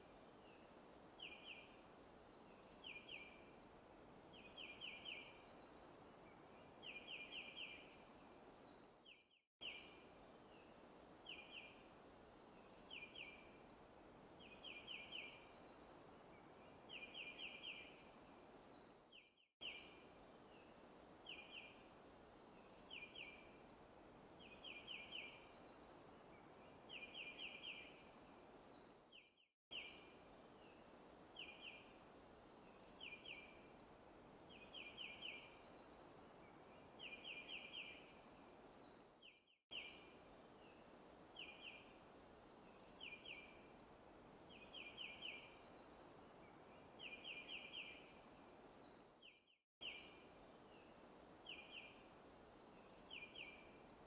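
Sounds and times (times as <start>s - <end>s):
soft steady hiss: 0.0s - 54.0s.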